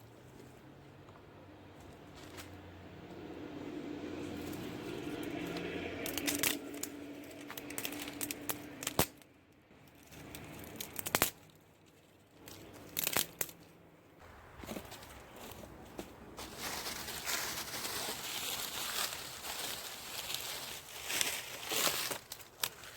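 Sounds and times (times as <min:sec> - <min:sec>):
crinkling and tearing: 0:04.3 - 0:22.9.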